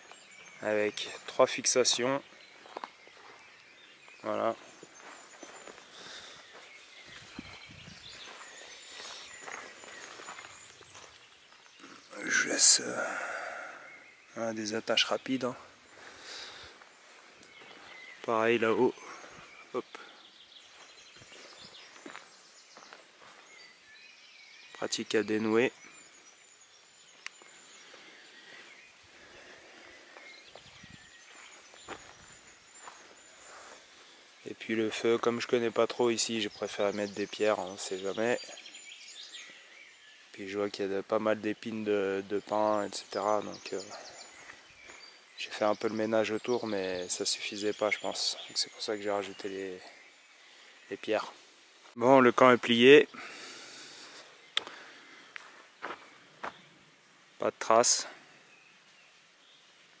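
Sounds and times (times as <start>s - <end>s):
soft footsteps on forest floor: 0.0s - 24.9s, 25.7s - 40.3s, 42.0s - 56.8s
distant bird chirps: 0.0s - 60.0s
faint outdoor ambience: 0.0s - 60.0s.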